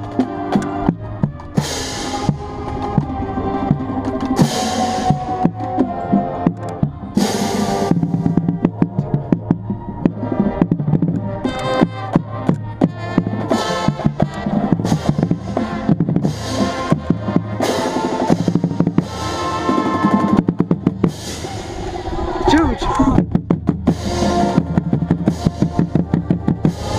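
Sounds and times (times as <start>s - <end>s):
bass drum strokes and rolls: 0.0s - 26.9s
brass and wind chords: 0.0s - 26.9s.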